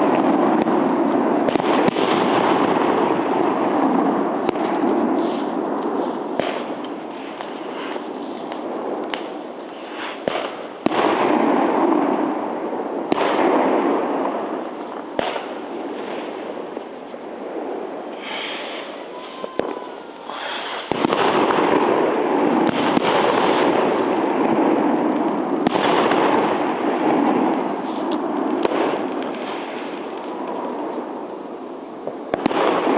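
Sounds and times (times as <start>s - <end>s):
firework shells bursting: 0.0s - 11.9s, 13.0s - 31.1s
firework crackling: 0.0s - 32.9s.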